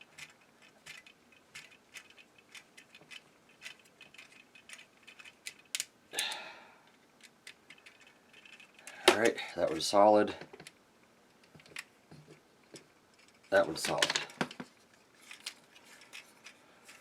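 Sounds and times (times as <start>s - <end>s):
plastic toy parts clicking: 0.1s - 5.9s, 6.9s - 9.4s, 10.4s - 17.0s.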